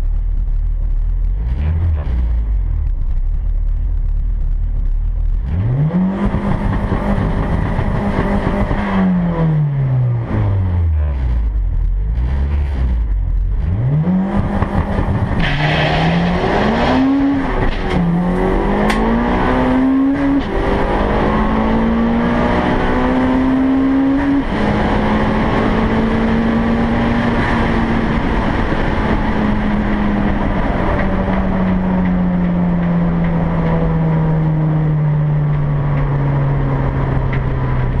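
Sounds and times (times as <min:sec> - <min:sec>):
car engine accelerating through gears: 0:00.0 - 0:38.0.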